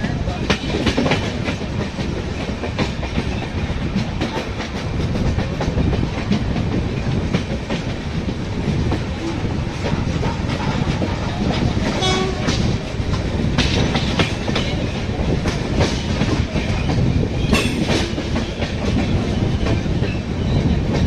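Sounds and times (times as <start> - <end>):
train wheels rumbling on rails: 0.0 - 21.0
wheels clacking over rail joints: 0.0 - 21.0.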